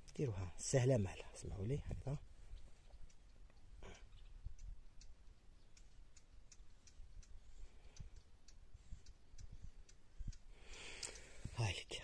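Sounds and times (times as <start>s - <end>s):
small wooden clicks and ticks: 0.0s - 12.0s.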